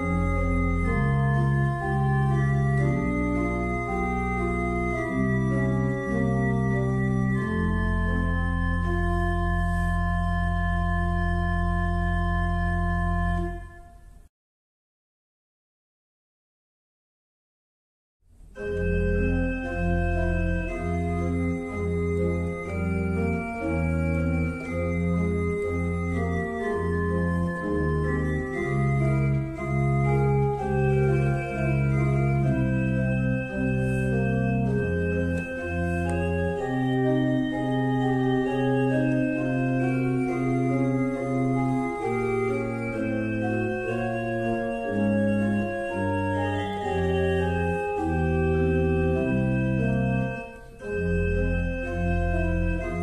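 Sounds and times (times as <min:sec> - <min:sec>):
organ music: 0:00.0 - 0:14.2, 0:18.4 - 0:53.0.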